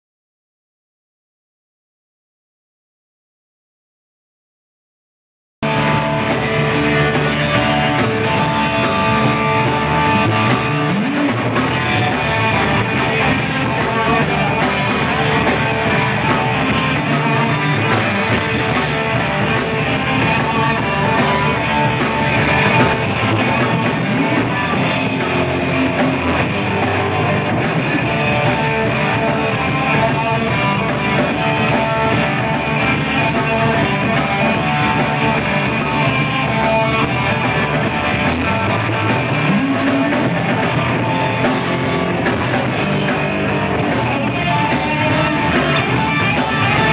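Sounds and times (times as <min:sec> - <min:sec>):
blues-rock band instrumental: 0:05.6 - 0:46.9.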